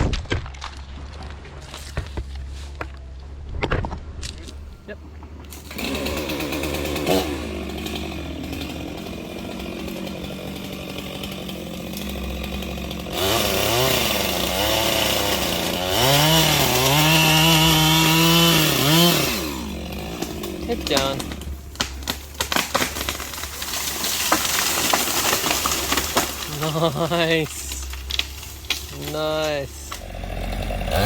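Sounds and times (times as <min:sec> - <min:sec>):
chainsaw revving: 0:05.0 - 0:31.0.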